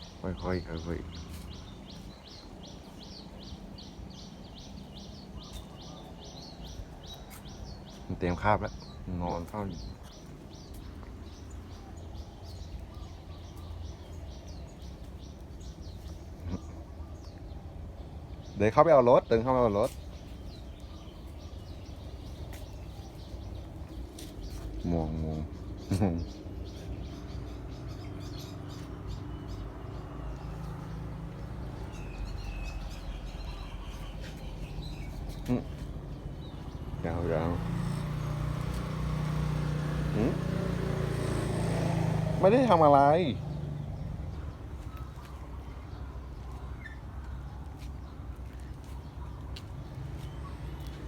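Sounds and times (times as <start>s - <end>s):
low outdoor rumble: 0.0s - 51.0s
small birds chirping: 0.0s - 51.0s.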